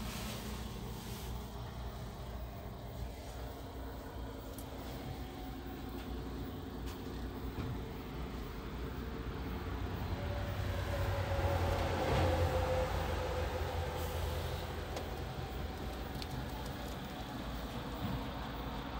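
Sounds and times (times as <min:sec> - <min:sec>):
diesel engine running: 0:00.0 - 0:18.9
faint whine: 0:00.0 - 0:18.9.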